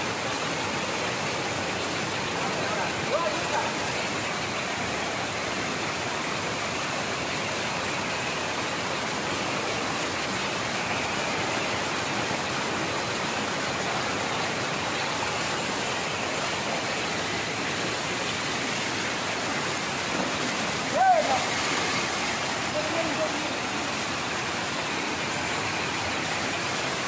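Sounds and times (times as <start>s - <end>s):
water rushing over weir: 0.0s - 27.0s.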